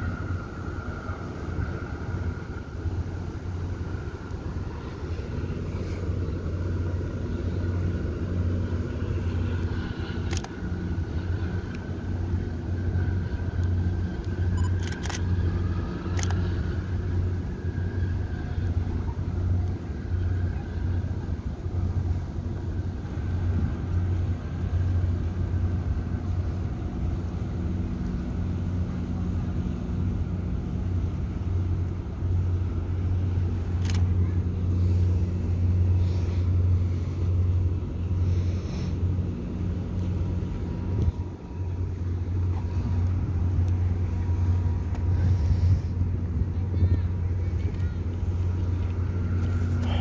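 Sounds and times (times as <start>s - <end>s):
low engine drone: 0.0s - 50.0s.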